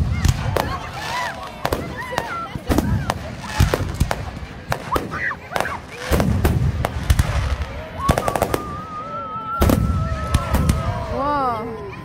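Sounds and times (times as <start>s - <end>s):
fireworks bangs and booms: 0.0s - 11.3s
fireworks crackling: 0.0s - 11.7s.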